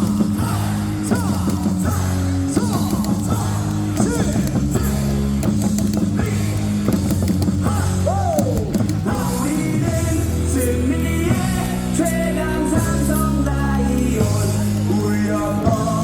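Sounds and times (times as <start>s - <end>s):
rock music over loudspeakers: 0.0s - 16.0s.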